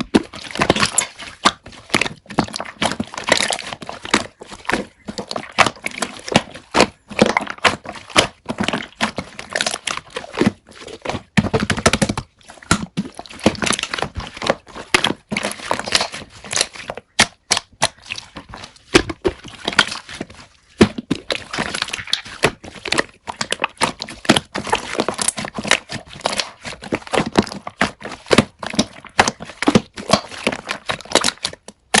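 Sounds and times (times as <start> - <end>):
slime squished by hand: 0.0 - 32.0.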